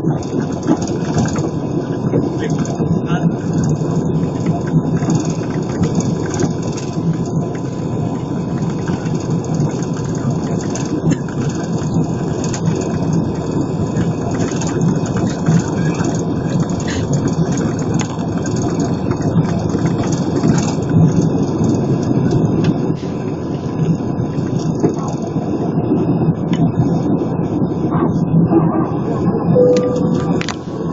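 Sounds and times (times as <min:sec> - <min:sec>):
jet engines roaring: 0:00.0 - 0:25.9, 0:26.9 - 0:30.9
thin steady engine whine: 0:00.0 - 0:26.3, 0:29.6 - 0:30.9.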